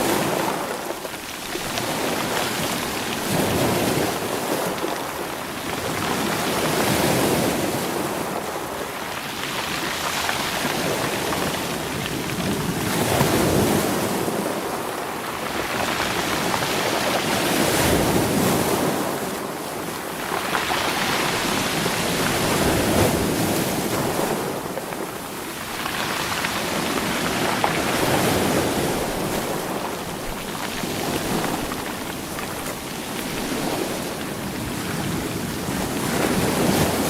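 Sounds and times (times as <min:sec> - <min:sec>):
sea waves over stones: 0:00.0 - 0:37.0.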